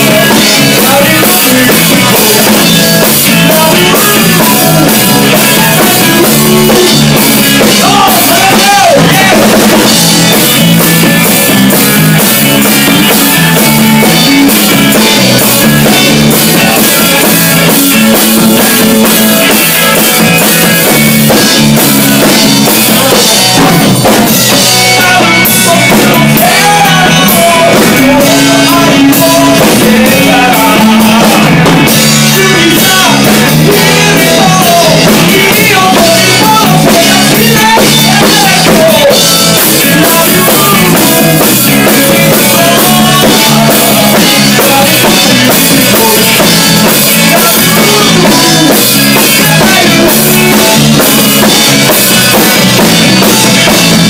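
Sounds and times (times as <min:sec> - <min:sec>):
drum kit: 0:00.0 - 0:54.0
electric guitars: 0:00.0 - 0:54.0
man singing: 0:00.0 - 0:54.0.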